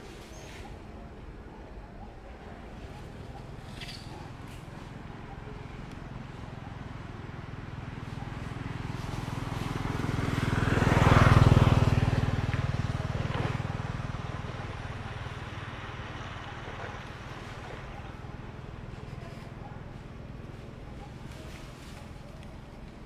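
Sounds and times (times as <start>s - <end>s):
motor vehicle driving past: 2.8s - 23.0s.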